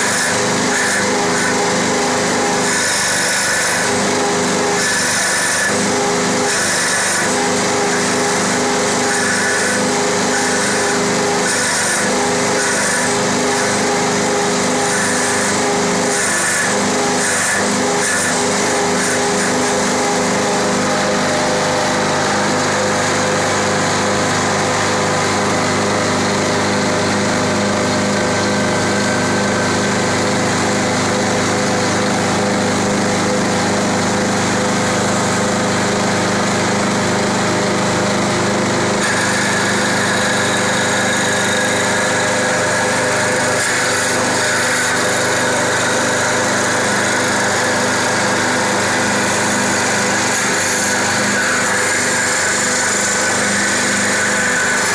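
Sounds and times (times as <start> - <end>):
wood lathe motor whine: 0.0 - 54.9.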